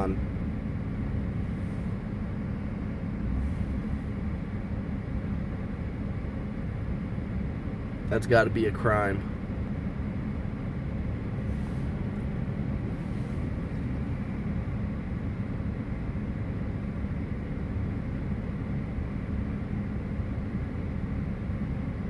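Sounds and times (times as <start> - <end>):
low machinery rumble: 0.0 - 22.0.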